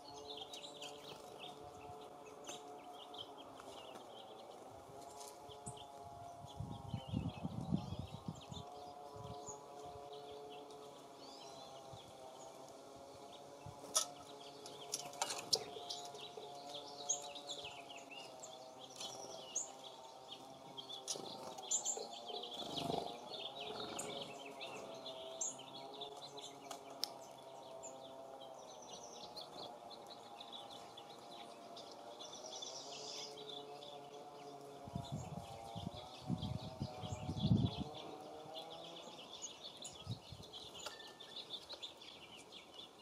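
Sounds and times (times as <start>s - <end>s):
songbirds chirping: 0.0s - 43.0s.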